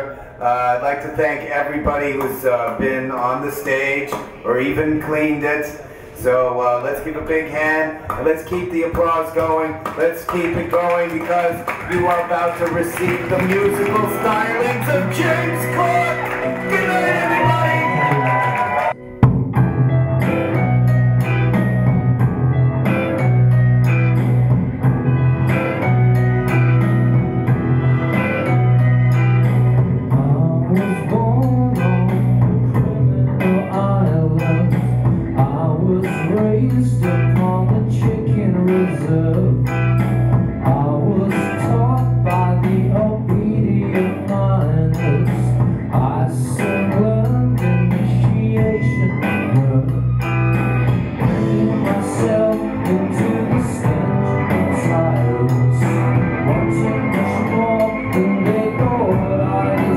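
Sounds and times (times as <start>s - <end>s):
bluesy electric guitar: 8.0s - 59.9s.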